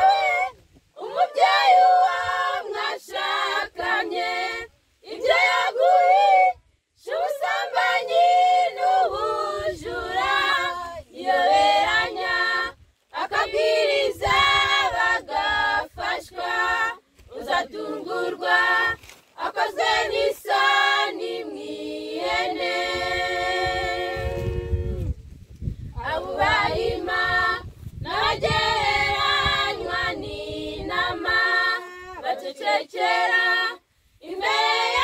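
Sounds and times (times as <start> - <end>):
girls' choir singing a hymn: 0.0 - 24.7, 26.0 - 35.0.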